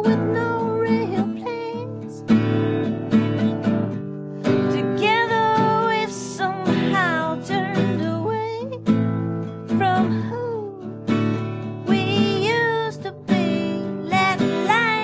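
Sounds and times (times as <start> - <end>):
woman singing: 0.0 - 2.8, 4.4 - 15.0
acoustic guitar strumming: 0.0 - 15.0.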